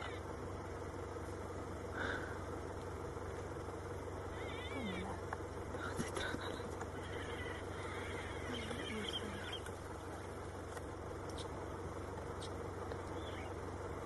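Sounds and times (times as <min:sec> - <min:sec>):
vehicle engines idling: 0:00.0 - 0:14.0.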